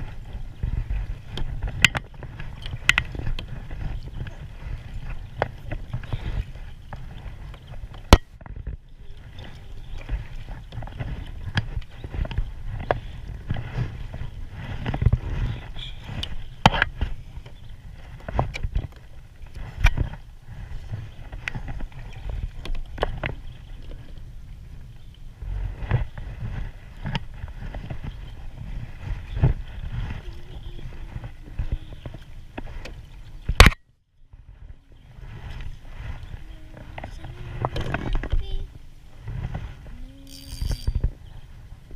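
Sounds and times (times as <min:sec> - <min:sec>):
knocks and clunks on a kayak: 0:00.0 - 0:41.9
low rumble of water: 0:00.0 - 0:41.9
wind noise: 0:00.0 - 0:41.9.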